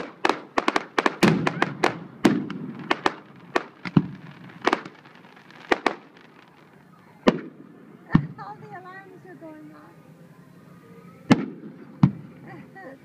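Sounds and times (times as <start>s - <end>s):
fireworks bursting: 0.0s - 9.6s, 11.2s - 13.0s.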